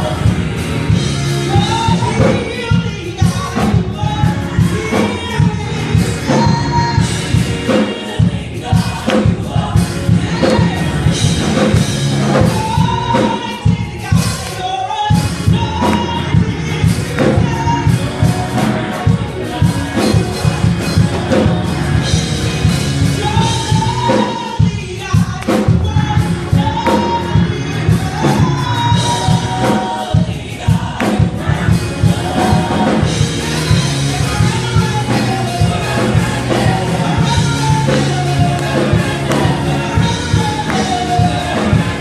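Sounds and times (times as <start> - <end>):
backing singers: 0.0 - 42.0
instrumental accompaniment: 0.0 - 42.0
lead singer: 0.0 - 42.0.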